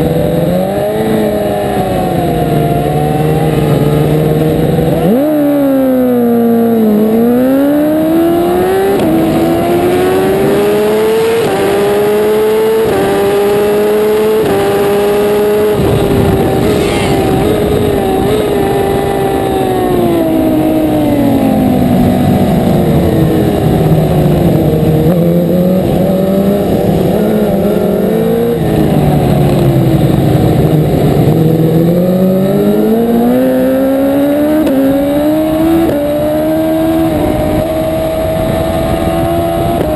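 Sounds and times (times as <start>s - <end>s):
superbike engine revving through gears: 0.0s - 39.9s.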